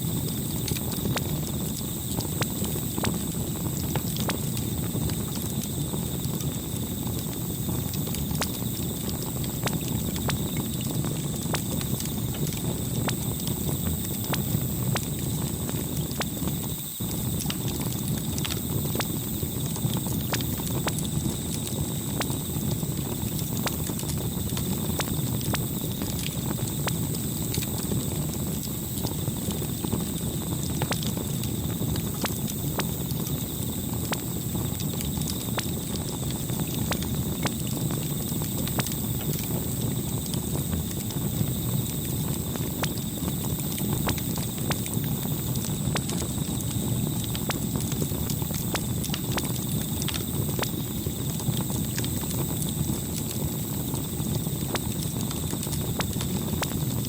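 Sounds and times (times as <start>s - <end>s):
campfire flames rushing: 0.0s - 57.0s
fire crackling and popping: 0.0s - 57.0s.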